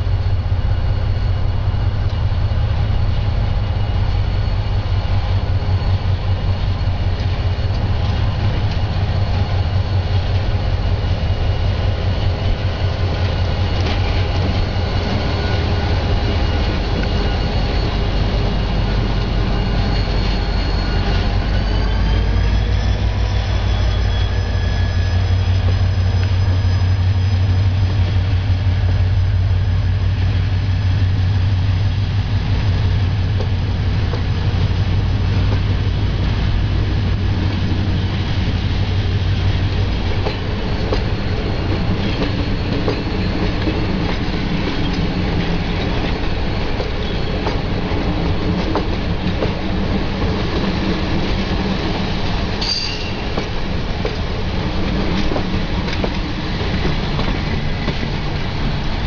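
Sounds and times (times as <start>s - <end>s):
high wheel squeal: 0.0s - 31.0s, 34.4s - 59.0s
diesel locomotive engine droning: 0.0s - 59.0s
train wheels clicking over rail joints: 1.7s - 59.0s.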